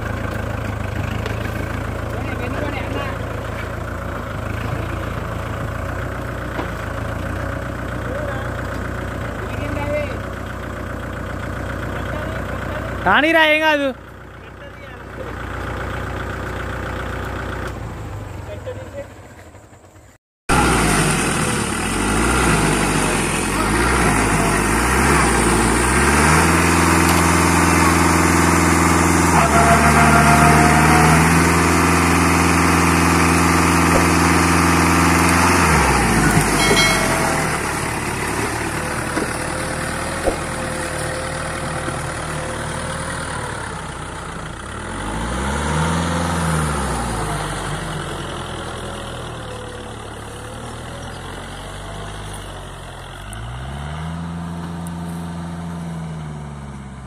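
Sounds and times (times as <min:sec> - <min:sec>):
tractor diesel engine revving: 0:00.0 - 0:19.9, 0:20.5 - 0:57.0.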